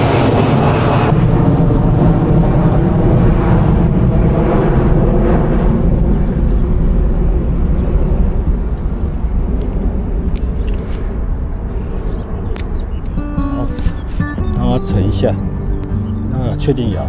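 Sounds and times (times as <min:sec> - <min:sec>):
airliner engine rumble: 0:00.0 - 0:17.0.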